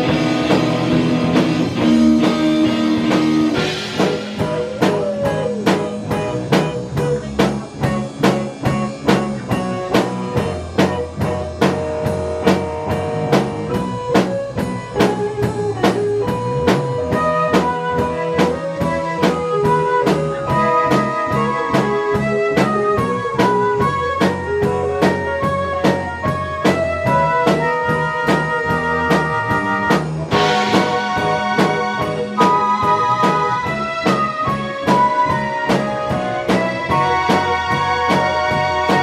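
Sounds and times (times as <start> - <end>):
blues-rock band playing: 0.0 - 39.0
drum kit beat: 0.0 - 39.0.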